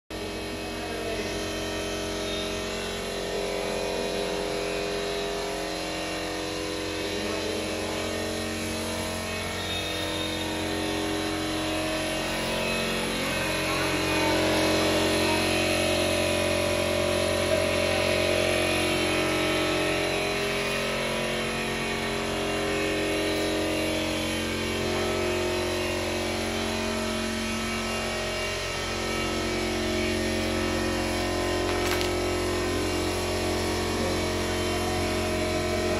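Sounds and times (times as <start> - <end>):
machinery hum: 0.2 - 35.9.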